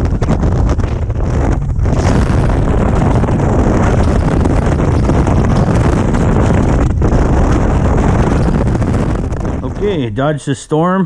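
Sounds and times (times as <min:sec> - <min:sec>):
boat motor: 0:00.0 - 0:10.0
water noise: 0:00.0 - 0:10.4
wind rushing over microphone: 0:00.0 - 0:11.0.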